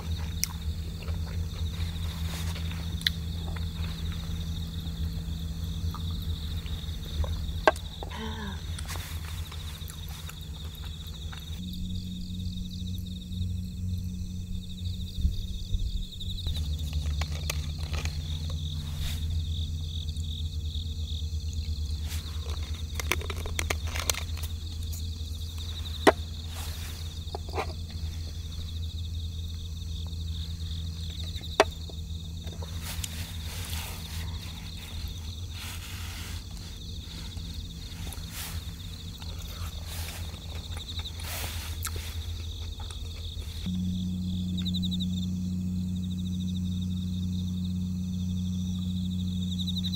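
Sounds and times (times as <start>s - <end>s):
insects chirping: 0.0s - 49.9s
low rumble: 0.0s - 49.9s.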